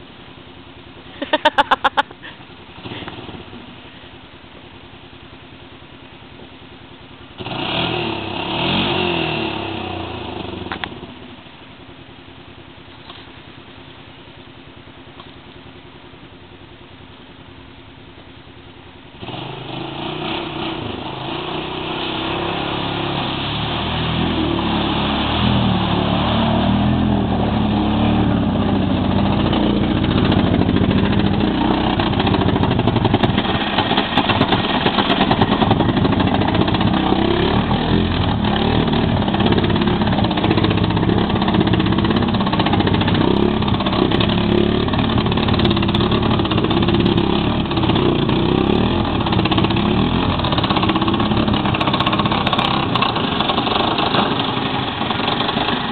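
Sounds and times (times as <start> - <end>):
loud engine: 0.0 - 4.2, 7.2 - 11.6, 19.1 - 55.9
atv engine idling: 0.0 - 55.9.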